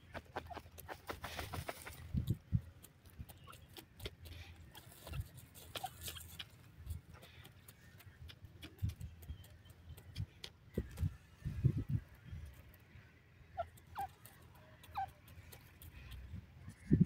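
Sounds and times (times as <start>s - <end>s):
bird pecking in dry soil: 0.0s - 17.0s.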